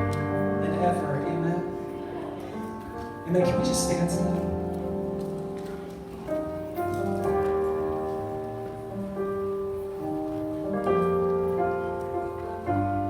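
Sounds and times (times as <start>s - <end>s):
keyboard playing slow chords: 0.0s - 13.0s.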